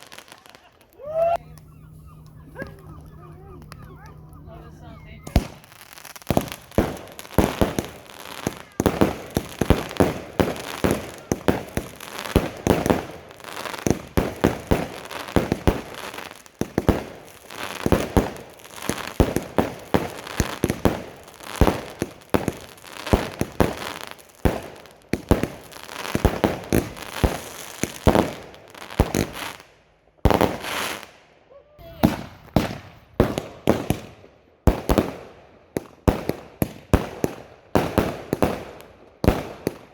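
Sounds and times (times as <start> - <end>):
fireworks banging and crackling: 0.0 - 31.2, 31.8 - 39.9.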